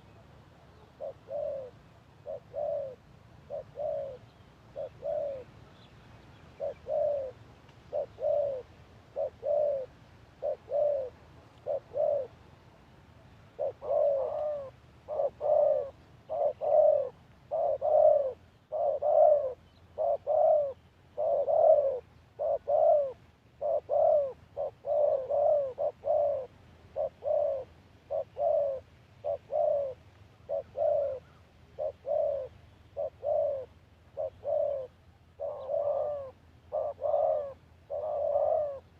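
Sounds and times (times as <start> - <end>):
doves cooing: 0.0 - 12.4, 13.5 - 38.9.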